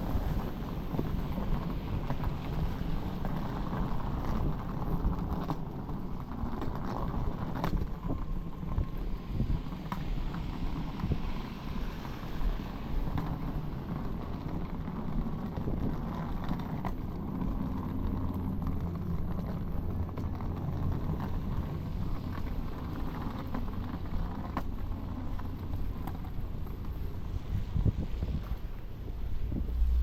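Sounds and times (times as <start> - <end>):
city traffic rumbling: 0.0 - 30.0
low engine hum: 0.0 - 30.0
wind noise on microphone: 0.0 - 30.0.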